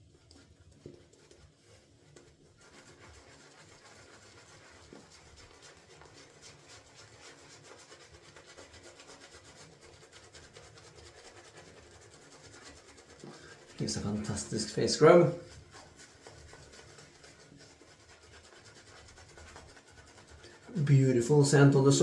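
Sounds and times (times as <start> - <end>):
shaving brush swishing lather: 0.0 - 22.0.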